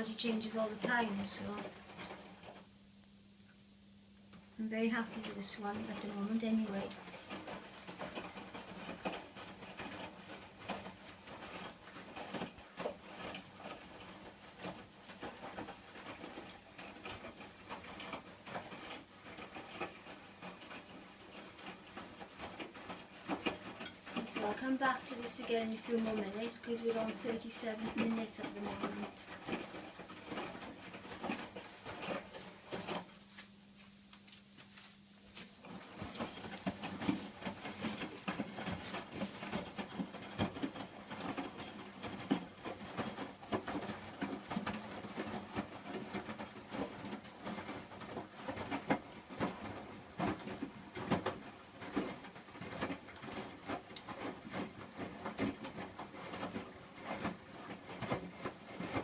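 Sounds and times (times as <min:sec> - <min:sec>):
washing machine hum: 0:00.0 - 0:59.0
washing machine drum sloshing: 0:04.5 - 0:33.3, 0:35.2 - 0:59.0.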